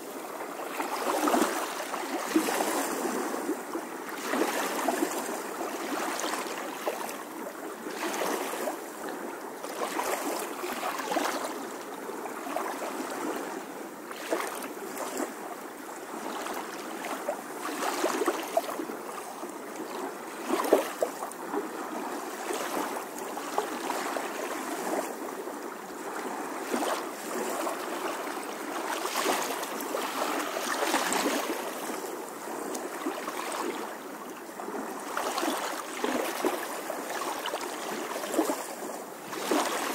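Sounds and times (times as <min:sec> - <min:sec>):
pool water splashing and sloshing: 0:00.0 - 0:39.9.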